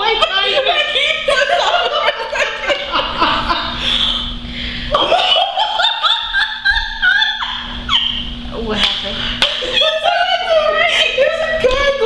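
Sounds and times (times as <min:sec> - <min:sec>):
women laughing: 0:00.0 - 0:04.0, 0:04.9 - 0:08.4, 0:09.4 - 0:11.7.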